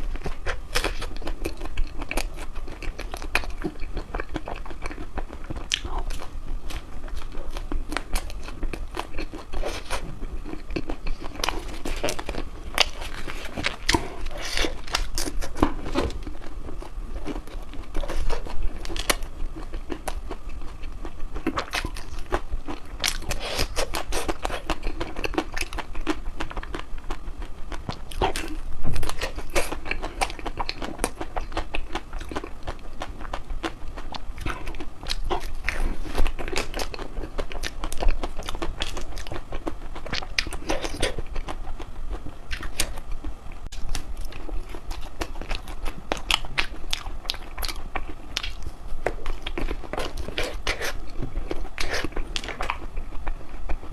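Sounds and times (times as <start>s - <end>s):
crunching chocolate ice cream: 0.0s - 53.9s.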